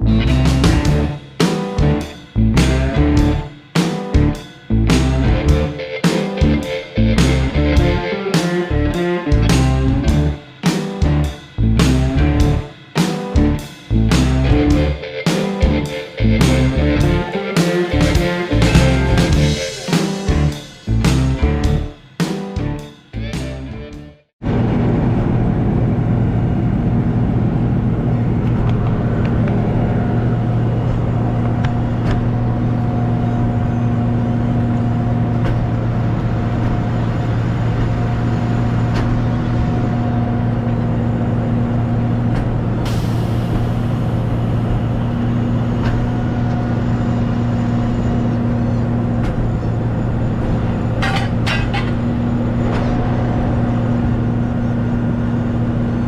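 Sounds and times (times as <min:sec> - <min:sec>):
truck engine and road drone: 0:00.0 - 0:05.8, 0:06.4 - 0:12.8, 0:13.4 - 0:15.0, 0:15.6 - 0:21.9, 0:22.6 - 0:56.0.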